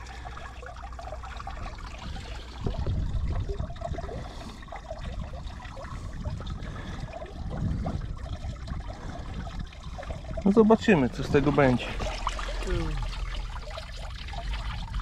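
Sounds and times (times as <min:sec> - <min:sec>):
low rumbling: 0:00.0 - 0:15.0
running water pouring: 0:00.0 - 0:15.0.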